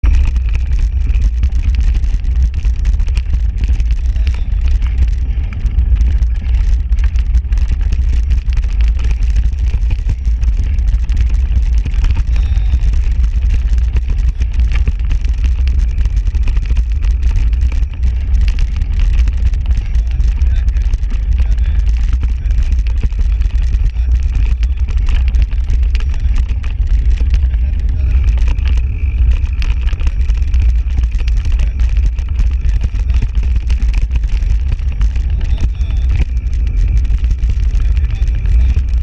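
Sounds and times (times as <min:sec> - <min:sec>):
bike clicks and rattles: 0:00.0 - 0:39.0
bike tyre noise: 0:00.0 - 0:39.0
wind rumbling on microphone: 0:00.0 - 0:39.0.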